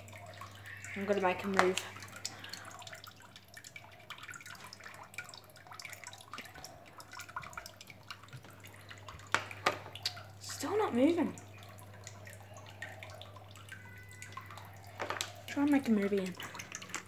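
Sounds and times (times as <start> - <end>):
low steady hum: 0.0 - 17.0
water dripping into pond: 0.0 - 17.0.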